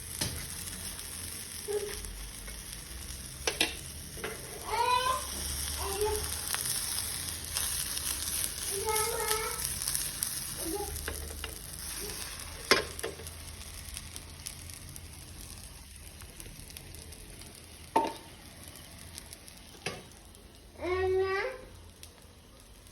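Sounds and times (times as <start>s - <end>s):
batter sizzling in a pan: 0.0s - 22.9s.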